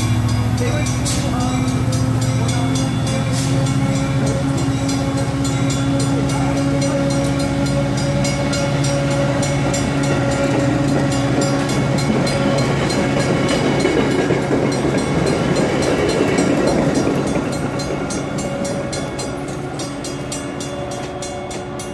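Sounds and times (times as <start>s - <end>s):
grade crossing bell ringing: 0.0s - 21.9s
train wheels rushing on rails: 0.0s - 21.9s.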